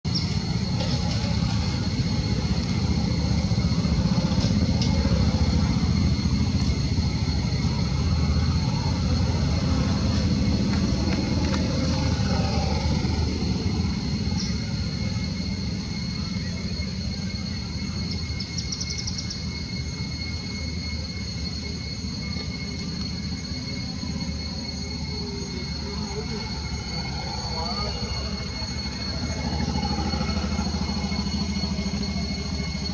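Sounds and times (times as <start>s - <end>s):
low outdoor rumble: 0.0s - 32.9s.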